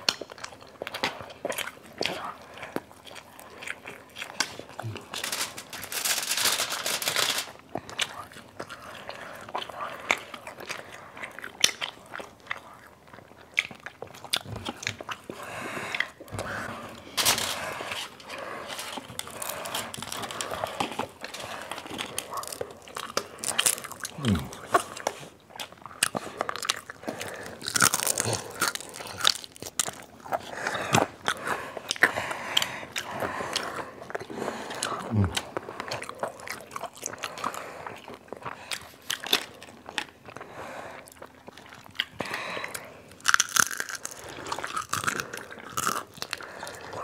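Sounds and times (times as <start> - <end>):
chewing crispy fried chicken: 0.0 - 47.0.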